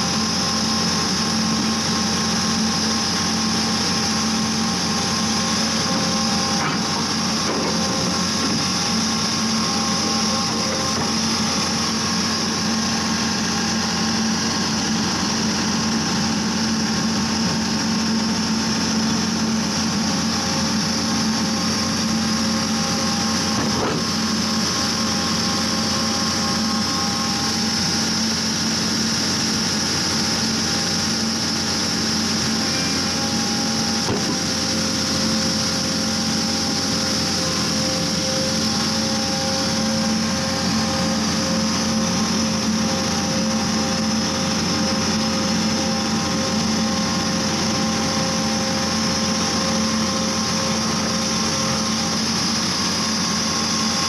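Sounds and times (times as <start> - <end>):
drill rig engine humming: 0.0 - 54.0.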